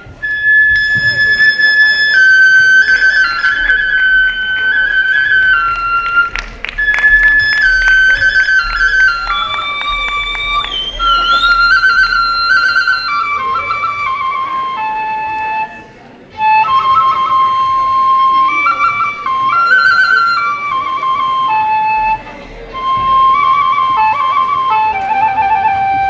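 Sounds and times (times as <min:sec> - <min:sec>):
bamboo flute melody: 0:00.0 - 0:26.0.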